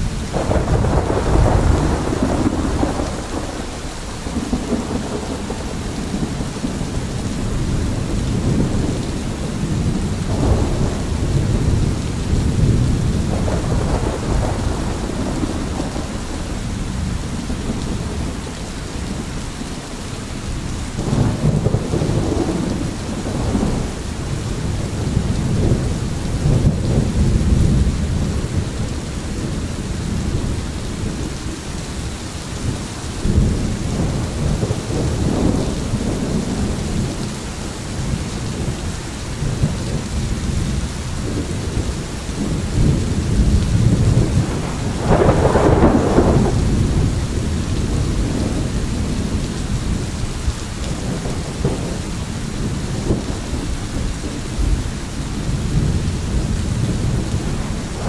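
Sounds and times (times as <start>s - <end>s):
heavy rain: 0.0s - 58.0s
thunder rumbling: 0.0s - 58.0s.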